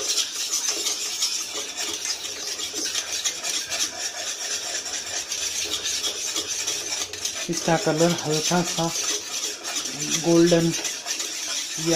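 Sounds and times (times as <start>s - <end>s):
utensil scraping a pan: 0.0s - 11.9s.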